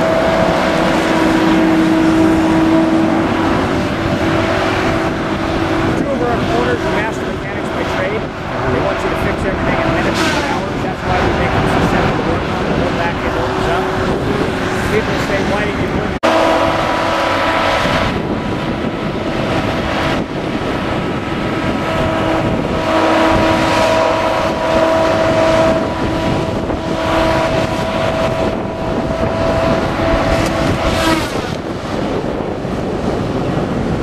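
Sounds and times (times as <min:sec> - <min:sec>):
diesel engine running: 0:00.0 - 0:34.0
hydraulic whine: 0:00.0 - 0:34.0.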